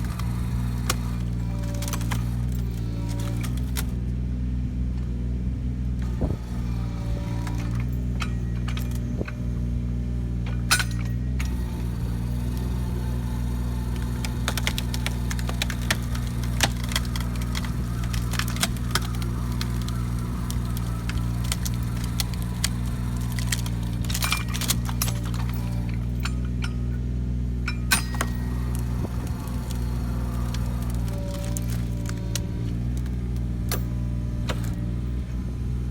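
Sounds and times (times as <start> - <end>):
hydraulic splitter screwing into log: 0.0 - 4.0, 6.0 - 9.7, 10.4 - 35.9
wood cracking and splintering: 0.0 - 4.1, 6.0 - 9.8, 10.5 - 35.9
excavator diesel engine running: 0.0 - 35.9.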